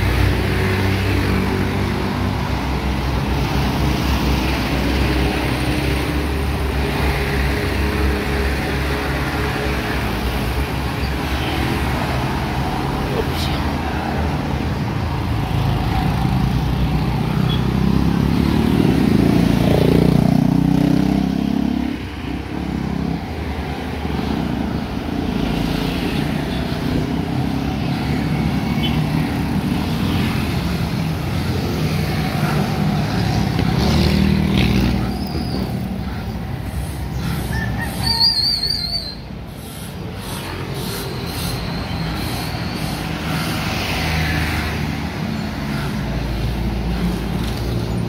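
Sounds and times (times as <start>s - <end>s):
car engines passing: 0.0s - 48.0s.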